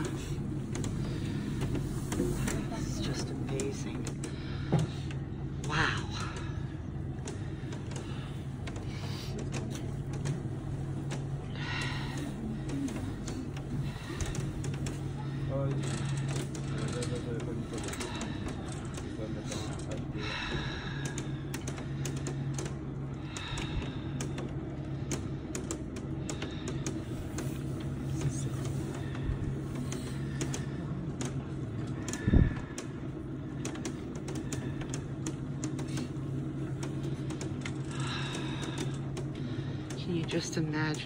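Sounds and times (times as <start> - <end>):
fast irregular clicking and rattling: 0.0 - 41.0
lift motor humming: 0.0 - 41.0.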